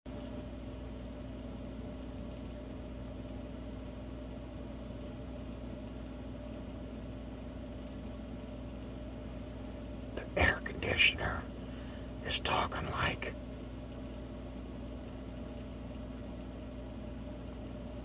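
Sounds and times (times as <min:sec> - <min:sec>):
air conditioner humming: 0:00.2 - 0:18.0.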